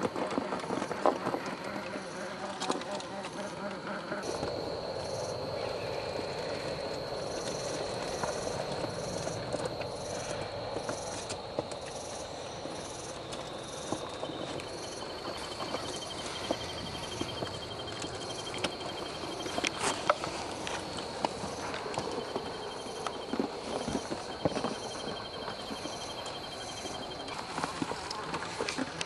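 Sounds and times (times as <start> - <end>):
insects buzzing: 0.0 - 29.0
fast ticking insect trill: 2.0 - 28.2.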